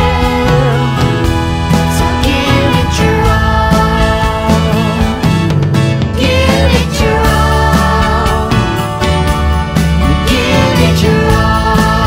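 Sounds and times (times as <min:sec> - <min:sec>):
upbeat christmas song: 0:00.0 - 0:12.0.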